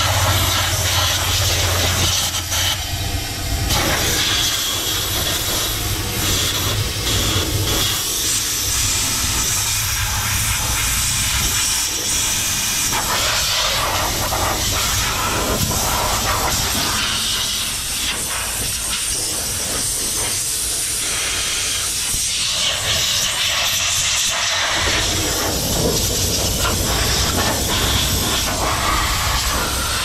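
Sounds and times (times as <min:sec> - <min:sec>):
compressed air blow gun hissing: 0:00.0 - 0:30.0.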